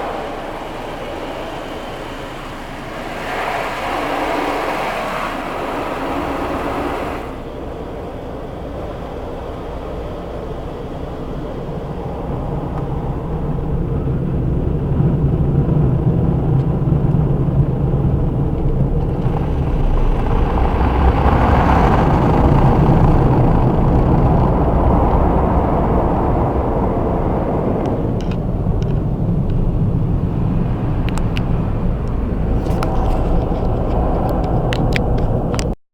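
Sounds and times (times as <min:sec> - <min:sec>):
car wash equipment rushing water: 0:00.0 - 0:35.7.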